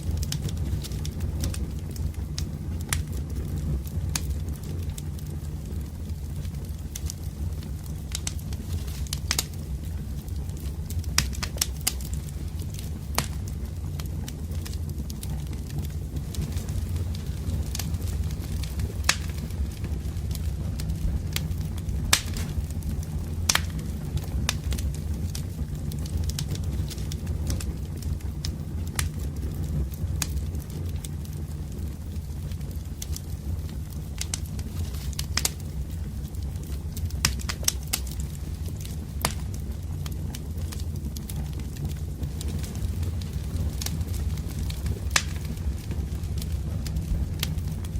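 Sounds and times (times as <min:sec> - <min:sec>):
sharp fire pops: 0:00.0 - 0:47.9
steady low rumble: 0:00.0 - 0:47.9
wood fire crackling: 0:00.0 - 0:47.9.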